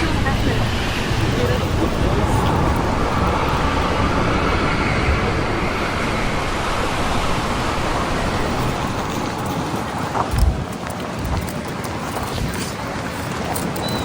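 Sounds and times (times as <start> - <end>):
outdoor ambient rush: 0.0 - 14.0.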